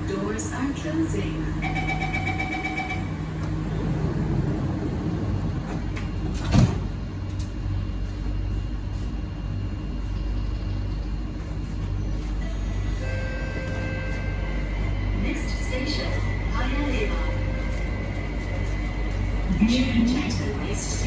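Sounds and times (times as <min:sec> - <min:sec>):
train rumble and motor hum: 0:00.0 - 0:21.0.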